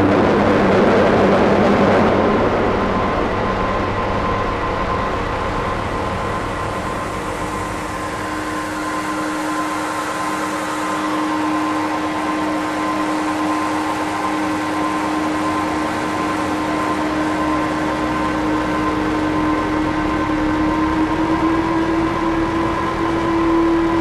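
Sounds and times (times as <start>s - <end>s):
dark ambient noise drone: 0.0s - 24.0s.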